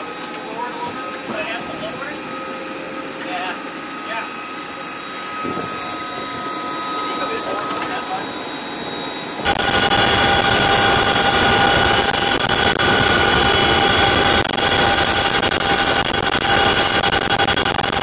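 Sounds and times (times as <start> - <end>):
helicopter engine and rotor noise: 0.0 - 18.0
steady whining tones: 0.0 - 18.0.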